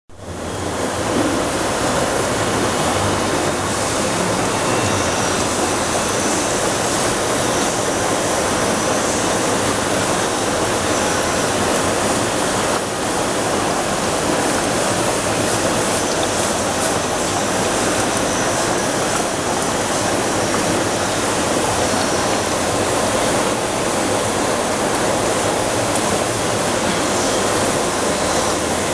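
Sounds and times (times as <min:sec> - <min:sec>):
aquarium water rushing and aerating: 0:00.1 - 0:28.9.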